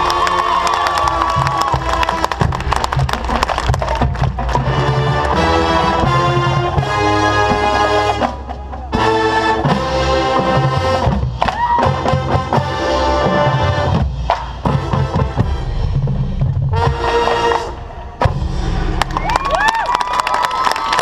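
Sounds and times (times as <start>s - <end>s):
drum line hits: 0.0s - 12.8s, 13.4s - 20.2s
marching band brass chords: 0.0s - 19.2s.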